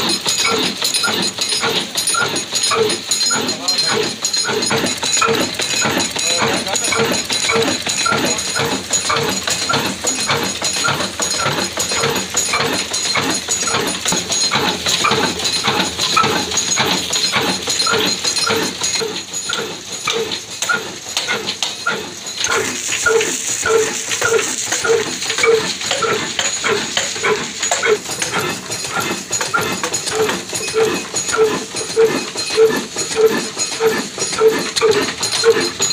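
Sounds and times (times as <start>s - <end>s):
diesel engine running steadily: 0.0s - 35.9s.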